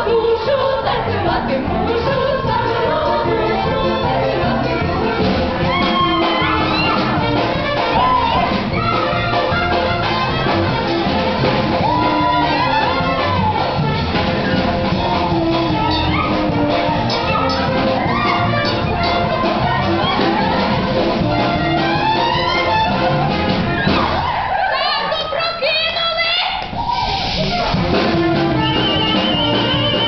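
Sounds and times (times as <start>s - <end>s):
folk dance music with brass: 0.0s - 30.0s.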